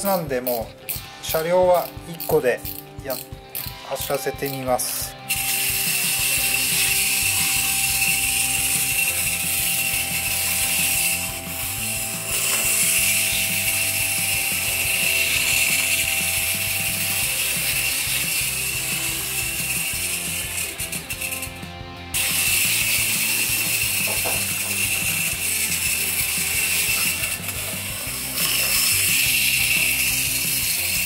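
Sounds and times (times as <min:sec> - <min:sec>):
toy train whirring and rattling: 0:00.0 - 0:31.0.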